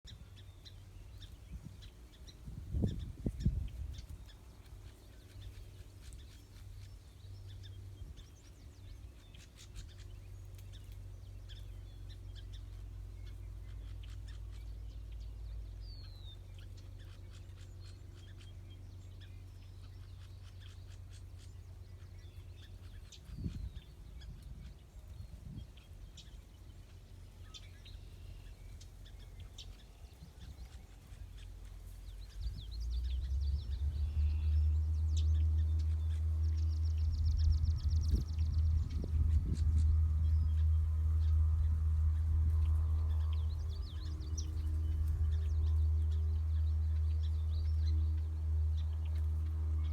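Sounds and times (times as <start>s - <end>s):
songbirds chirping: 0.0s - 49.9s
steady low rumble: 0.1s - 49.9s.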